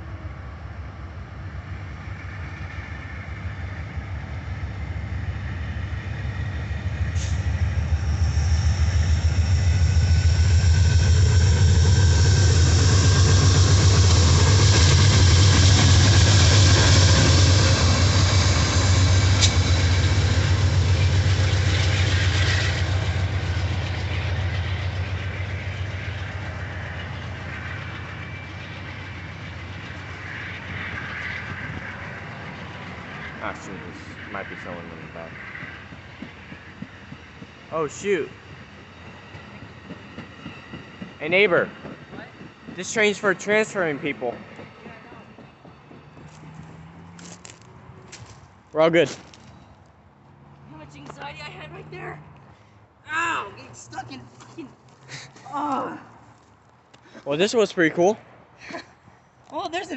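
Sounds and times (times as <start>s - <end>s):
diesel locomotive engine rumble: 0.0s - 59.9s
train wheels rolling on rails: 0.9s - 52.5s.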